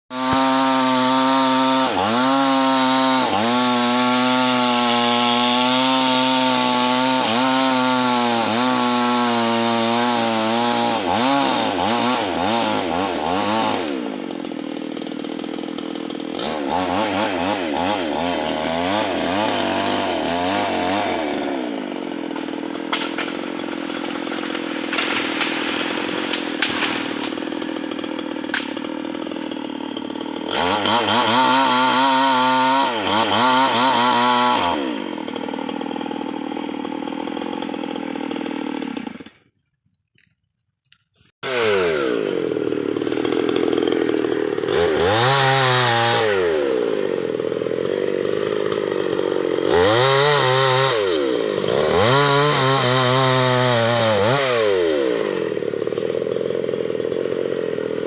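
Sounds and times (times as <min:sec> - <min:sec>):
chainsaw cutting wood: 0:00.1 - 0:58.0.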